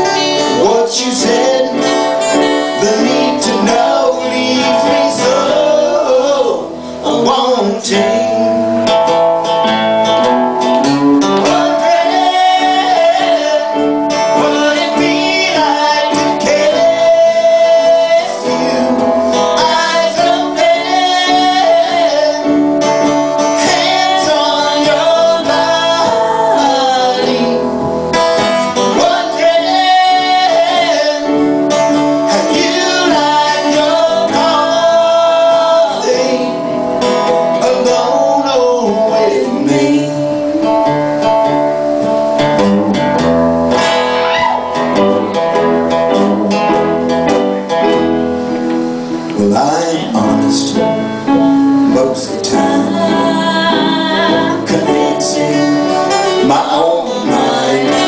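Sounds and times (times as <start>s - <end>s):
person singing: 0.0s - 9.1s, 11.2s - 41.3s, 49.3s - 58.0s
acoustic guitar strumming: 0.0s - 58.0s.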